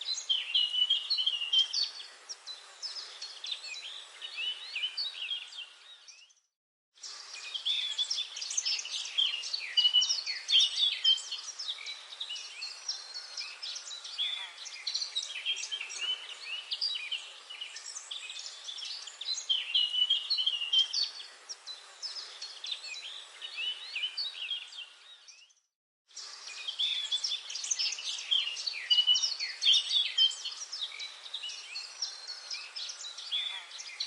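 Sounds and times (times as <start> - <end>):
birds chirping and singing: 0.0 - 6.4, 7.0 - 25.6, 26.2 - 34.0.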